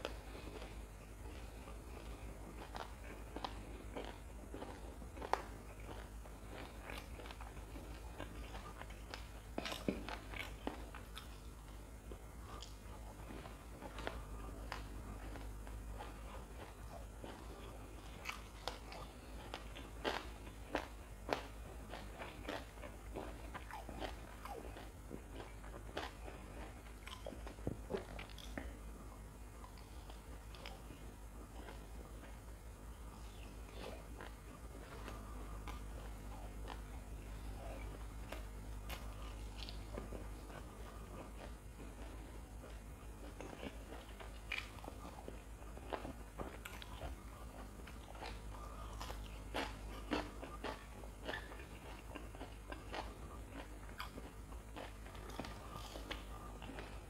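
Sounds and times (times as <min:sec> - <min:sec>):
close chewing and crunching: 0:00.0 - 0:57.0
steady low hum: 0:00.0 - 0:57.0.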